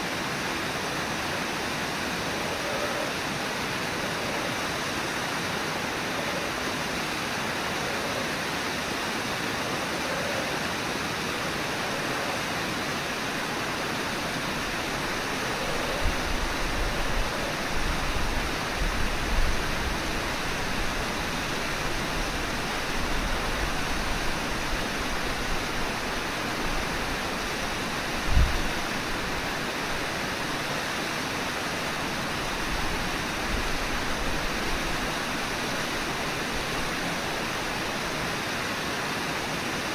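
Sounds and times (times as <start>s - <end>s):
river rushing over falls: 0.0s - 39.9s.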